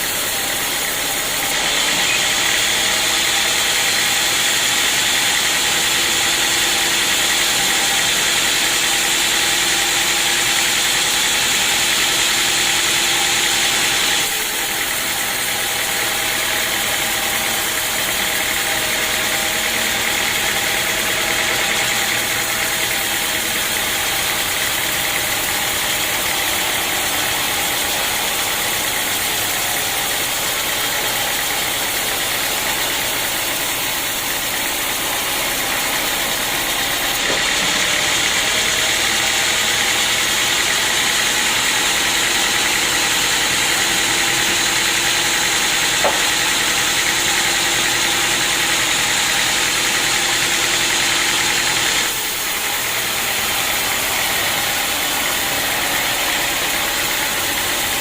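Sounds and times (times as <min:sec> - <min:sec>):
saw blade cutting log: 0:00.0 - 0:58.0
sawmill running: 0:00.0 - 0:58.0.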